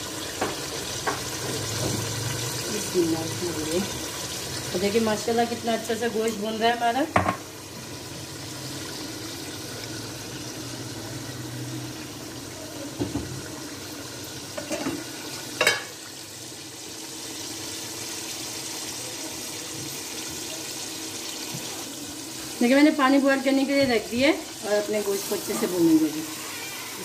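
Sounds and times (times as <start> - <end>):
meat sizzling in a pot: 0.0 - 27.0.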